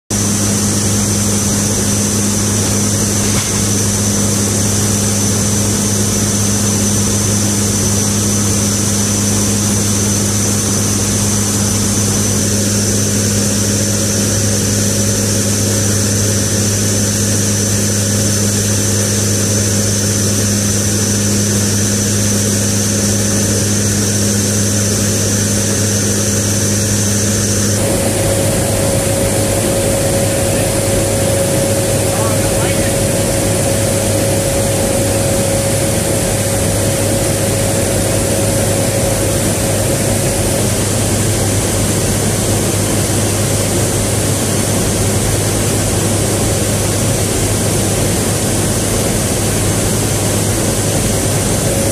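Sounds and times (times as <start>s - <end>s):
turboprop engines droning: 0.1s - 51.9s.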